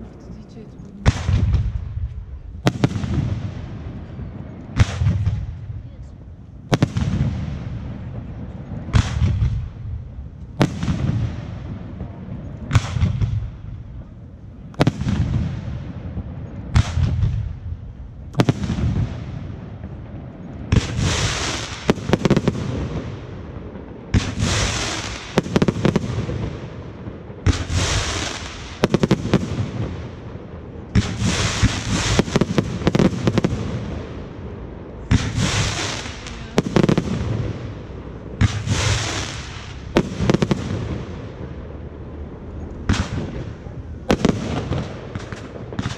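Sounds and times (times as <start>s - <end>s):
fireworks bursts: 0.0s - 13.7s, 18.3s - 45.9s.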